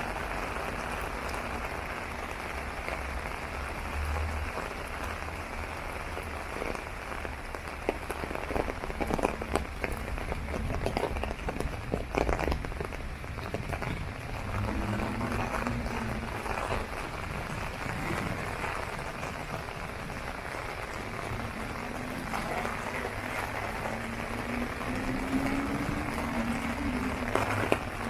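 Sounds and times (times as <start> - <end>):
rain hiss on umbrella: 0.0 - 28.0
sharp raindrop hits: 0.0 - 28.0.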